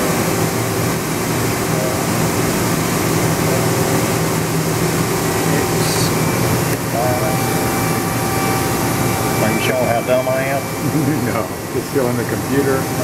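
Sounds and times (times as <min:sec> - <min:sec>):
machining center humming: 0:00.0 - 0:13.0.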